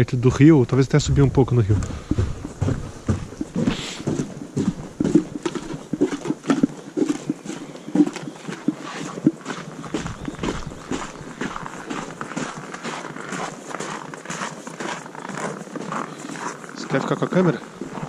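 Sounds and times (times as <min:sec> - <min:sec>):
footsteps in snow: 0:01.2 - 0:18.0.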